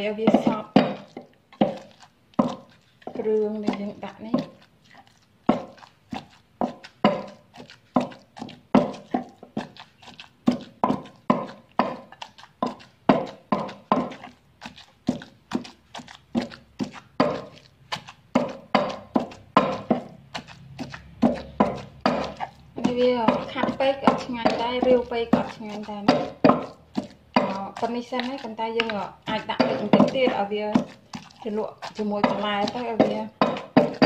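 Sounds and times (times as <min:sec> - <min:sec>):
pestle pounding in wooden mortar: 0:00.0 - 0:34.0.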